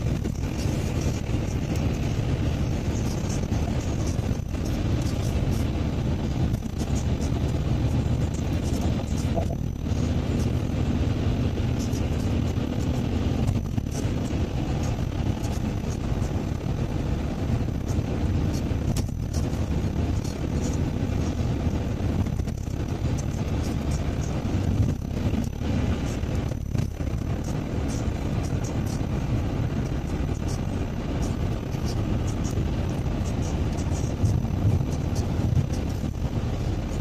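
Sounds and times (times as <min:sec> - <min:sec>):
car engine rumble: 0:00.0 - 0:37.0.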